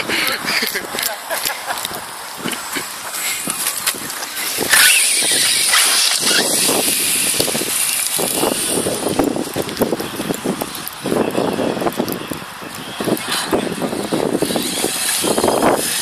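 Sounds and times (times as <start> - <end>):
tyres scrabbling on loose soil: 0.0 - 16.0
electric rc car motor whining: 1.8 - 16.0.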